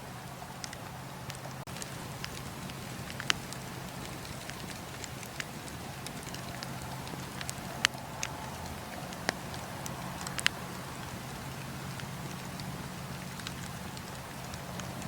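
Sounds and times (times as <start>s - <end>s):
wood fire crackling: 0.0s - 15.0s
fire pops: 0.6s - 15.0s.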